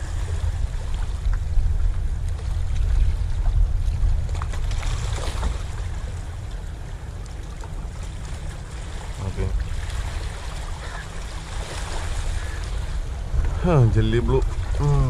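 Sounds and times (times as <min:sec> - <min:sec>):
sea water splashing against rocks: 0:00.0 - 0:06.4, 0:07.2 - 0:15.0
steady low rumble: 0:00.0 - 0:15.0.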